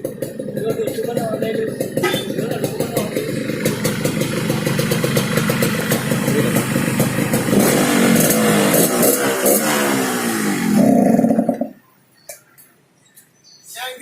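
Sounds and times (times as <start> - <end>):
two-stroke motorcycle engine running: 0.0 - 11.8.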